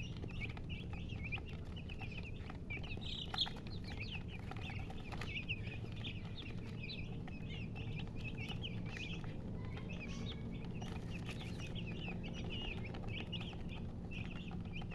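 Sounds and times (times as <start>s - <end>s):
chickens chirping: 0.0s - 14.9s
low background hum: 0.0s - 14.9s.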